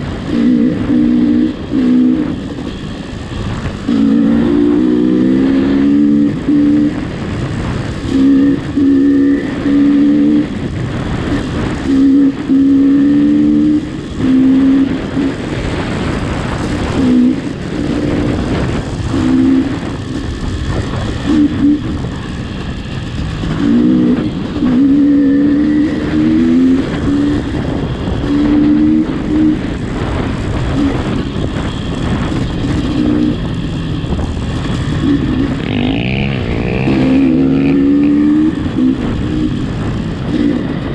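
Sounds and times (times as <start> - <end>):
steady rushing noise: 0.0 - 40.9
vehicle engine humming: 0.0 - 40.9.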